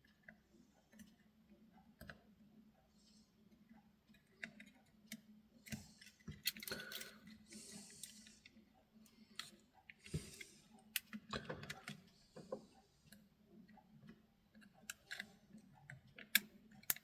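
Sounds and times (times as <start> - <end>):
small clicks and taps: 0.0 - 2.4, 3.0 - 7.1, 8.0 - 17.0.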